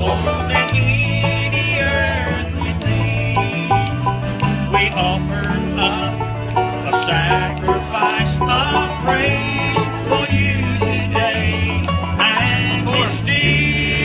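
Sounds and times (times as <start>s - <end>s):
banjo picking: 0.0s - 14.0s
low bass notes: 0.0s - 14.0s.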